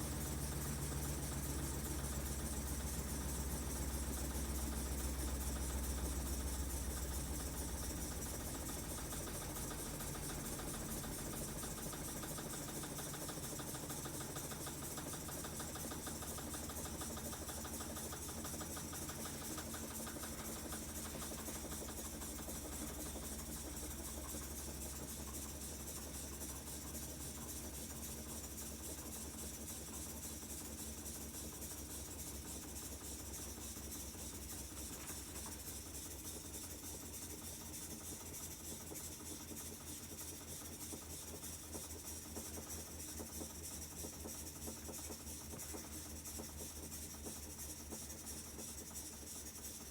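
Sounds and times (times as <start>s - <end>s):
washing machine spinning: 0.0s - 49.9s.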